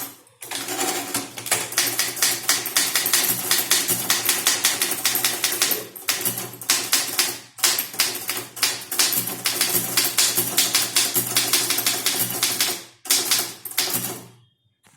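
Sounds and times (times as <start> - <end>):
typewriter keys striking: 0.0 - 14.2.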